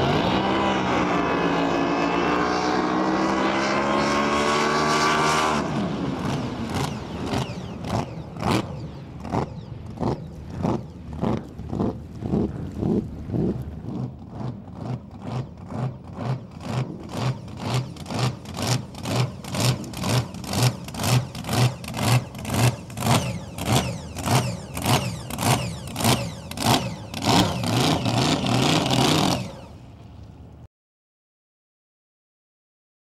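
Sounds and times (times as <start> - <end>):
boat engine surging: 0.0 - 30.5.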